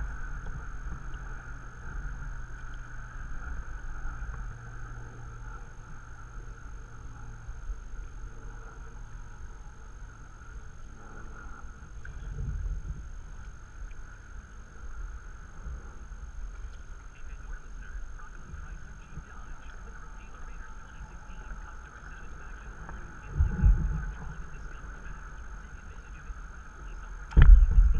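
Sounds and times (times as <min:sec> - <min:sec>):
wind rumble on microphone: 0:00.0 - 0:27.9.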